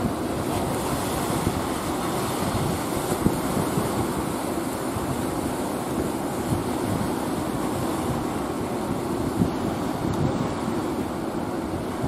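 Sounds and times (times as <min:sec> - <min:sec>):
surf roaring: 0:00.0 - 0:12.0
wind buffeting microphone: 0:00.0 - 0:12.0.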